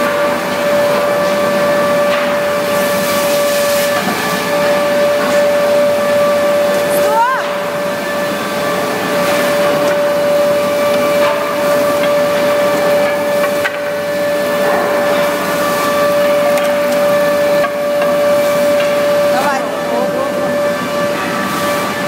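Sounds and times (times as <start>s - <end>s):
planer whining: 0.0s - 22.0s.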